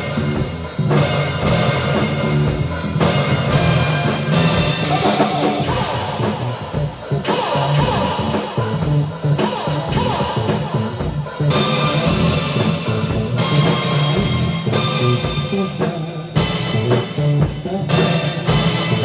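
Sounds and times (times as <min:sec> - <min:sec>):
drum kit beat: 0:00.0 - 0:19.0
guitar chords: 0:00.0 - 0:19.0.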